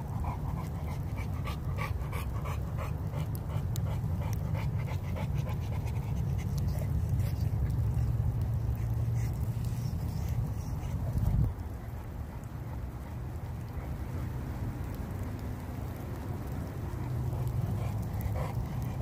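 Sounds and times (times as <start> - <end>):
dog panting: 0.0 - 14.7, 16.8 - 19.0
steady low rumble: 0.0 - 19.0.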